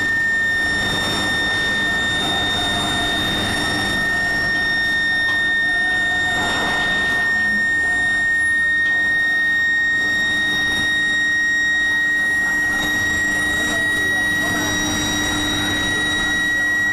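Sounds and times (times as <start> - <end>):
furnace high-pitched whine: 0.0 - 16.9.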